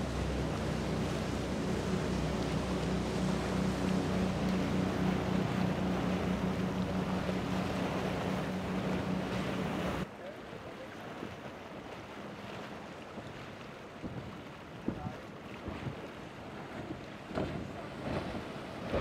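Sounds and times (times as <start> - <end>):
outboard motor droning: 0.0 - 19.0
water splashing: 0.0 - 19.0.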